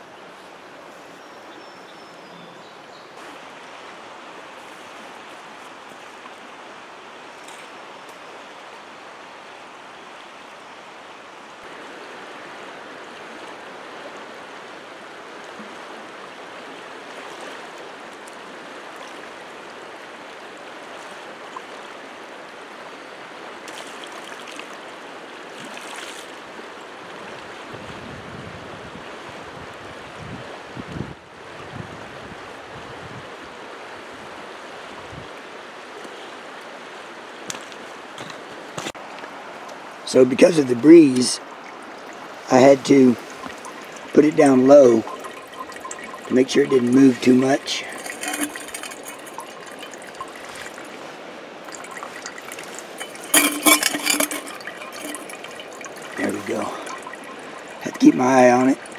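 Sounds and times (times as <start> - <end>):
creek water rushing over stones: 2.8 - 27.7, 33.6 - 58.9.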